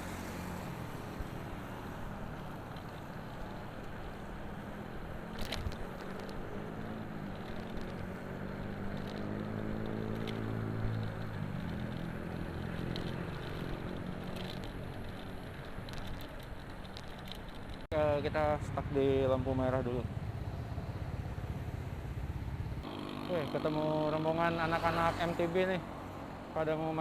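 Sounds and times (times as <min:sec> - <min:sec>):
road and wind noise: 0:00.0 - 0:27.0
vehicle engine humming: 0:00.0 - 0:27.0.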